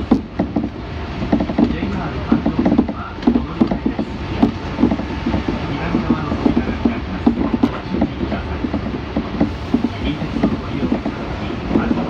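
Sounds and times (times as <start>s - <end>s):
train rumble: 0.0s - 12.0s
wheels clicking over rail joints: 0.0s - 12.0s.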